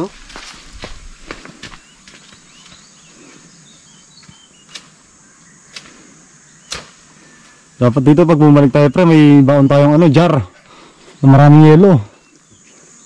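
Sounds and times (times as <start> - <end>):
steady high hiss: 0.0 - 13.0
faint bird chirps: 1.0 - 10.0, 10.6 - 13.0.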